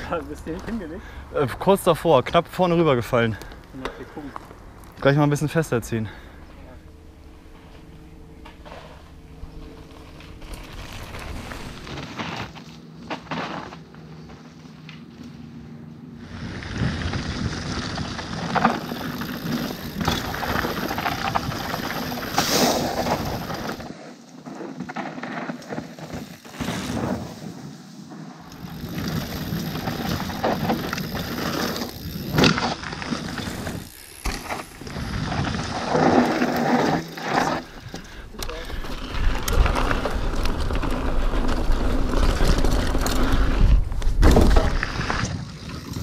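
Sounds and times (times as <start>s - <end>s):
bike rattling: 0.0s - 15.5s, 16.2s - 46.0s
bike tyres on dirt: 0.0s - 46.0s.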